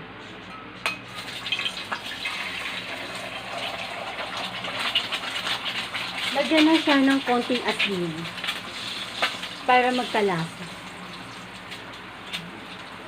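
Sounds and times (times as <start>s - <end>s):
eggs sizzling in hot oil: 1.1s - 13.0s.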